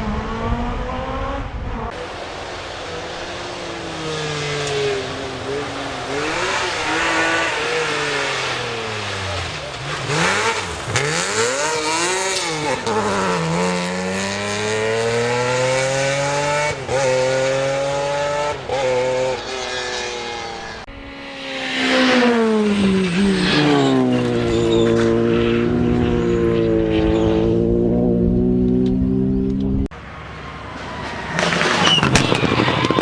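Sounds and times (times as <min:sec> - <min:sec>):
rally car engine accelerating: 0:00.0 - 0:33.0
rally car passing by: 0:00.0 - 0:33.0.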